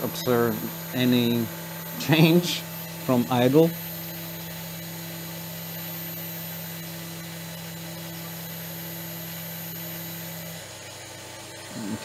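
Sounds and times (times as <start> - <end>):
spindle hum with high whine: 0.0 - 12.0.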